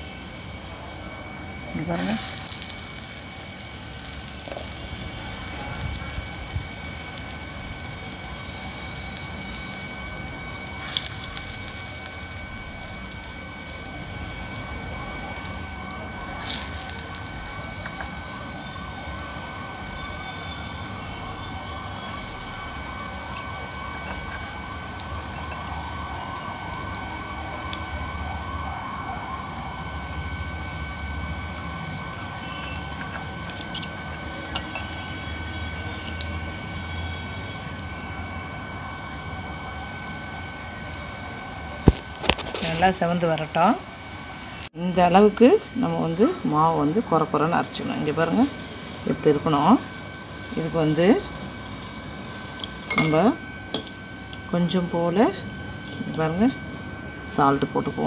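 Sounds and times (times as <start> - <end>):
batter deep-frying in hot oil: 0.0 - 58.0.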